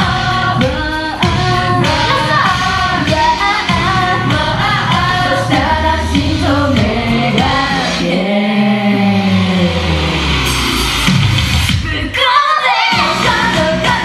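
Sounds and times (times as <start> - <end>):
upbeat pop song with singing: 0.0 - 14.0.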